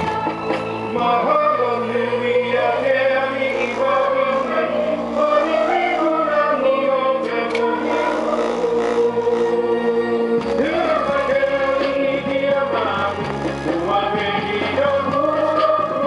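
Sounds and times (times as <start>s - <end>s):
hawaiian music with singing: 0.0s - 16.0s.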